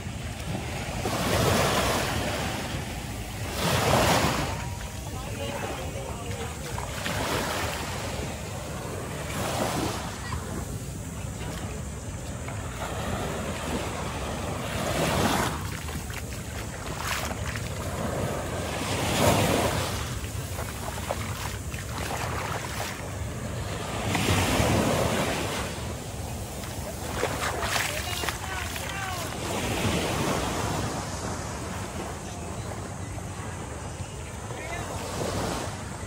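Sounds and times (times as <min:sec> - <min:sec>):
small waves breaking on beach: 0:00.0 - 0:36.0.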